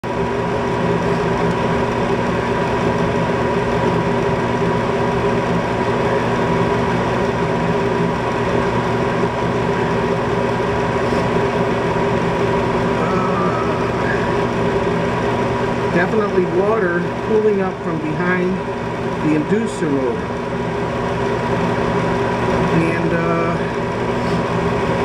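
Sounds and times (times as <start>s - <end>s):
gas furnace humming: 0.0s - 25.0s.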